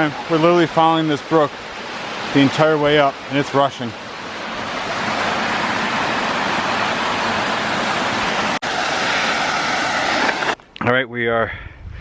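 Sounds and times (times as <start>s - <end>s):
brook water rushing: 0.0s - 10.7s.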